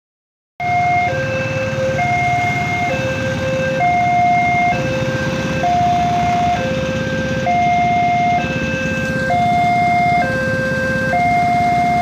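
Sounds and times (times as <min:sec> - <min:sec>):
motorcycle engines idling: 0:00.6 - 0:12.0
two-tone crossing alarm: 0:00.6 - 0:12.0.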